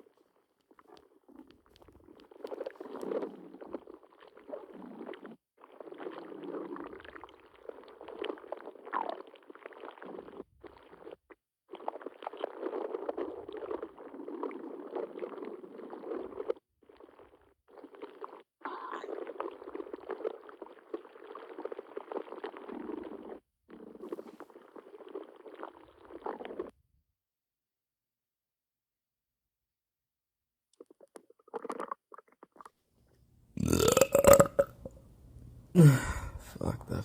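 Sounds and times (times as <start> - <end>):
stomach gurgling: 0.0 - 26.8, 30.7 - 32.8, 33.6 - 37.0.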